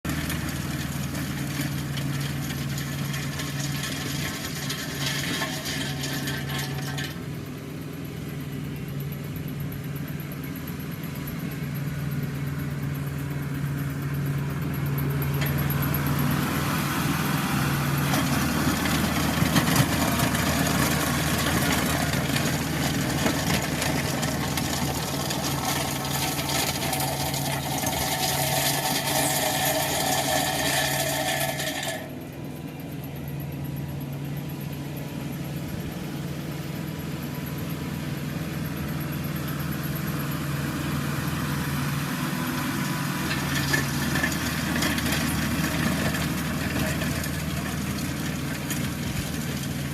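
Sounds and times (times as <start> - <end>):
power rake working concrete: 0.0 - 49.9
tractor engine running: 0.0 - 49.9.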